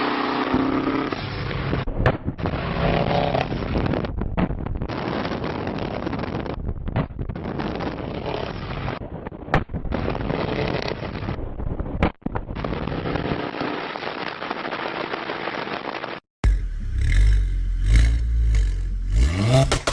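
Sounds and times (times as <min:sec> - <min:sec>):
car exhaust crackling and popping: 0:00.4 - 0:19.9.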